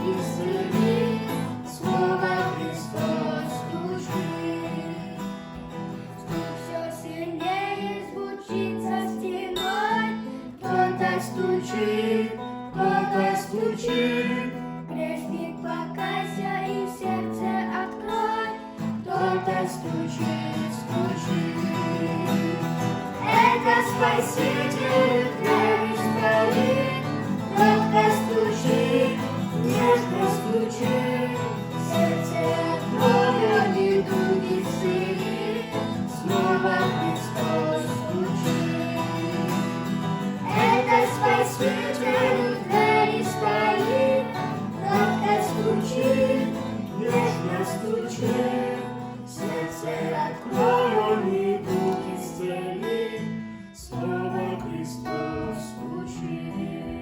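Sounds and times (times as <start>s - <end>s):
acoustic guitar hymn accompaniment: 0.0s - 57.0s.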